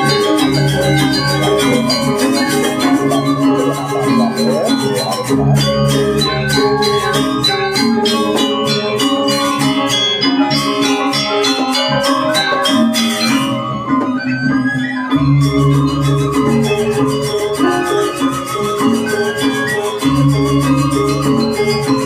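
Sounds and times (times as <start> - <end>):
gamelan ensemble playing: 0.0 - 22.0.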